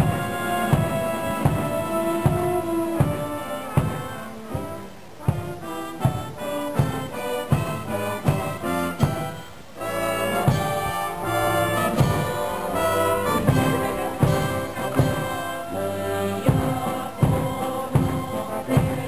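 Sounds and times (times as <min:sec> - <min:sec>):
brass band playing: 0:00.0 - 0:19.0
steady drum beat: 0:00.0 - 0:19.0.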